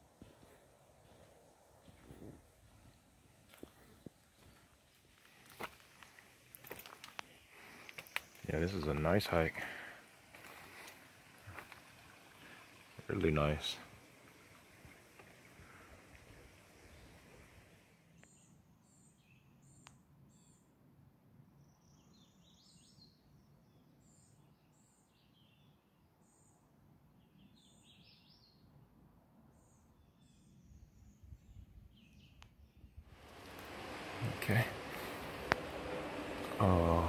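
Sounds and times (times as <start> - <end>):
songbird chirps and warbles: 0.0 - 37.0.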